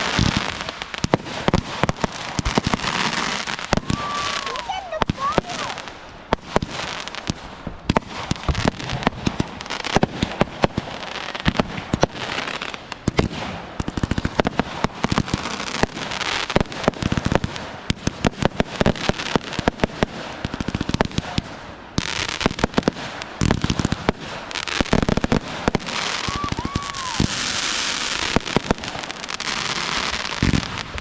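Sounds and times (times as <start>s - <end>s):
fireworks bangs and pops: 0.0s - 31.0s
fireworks crackling: 0.0s - 31.0s.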